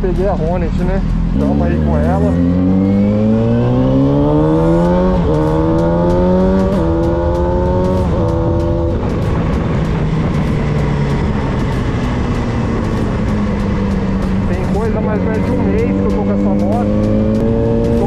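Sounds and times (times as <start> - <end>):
motorcycle engine accelerating: 0.0 - 18.0
wind noise: 0.0 - 18.0.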